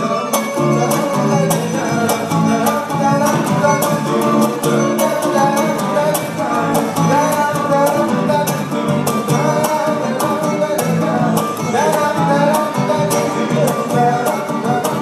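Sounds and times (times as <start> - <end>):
guitars strumming: 0.0 - 15.0
man singing: 0.0 - 15.0.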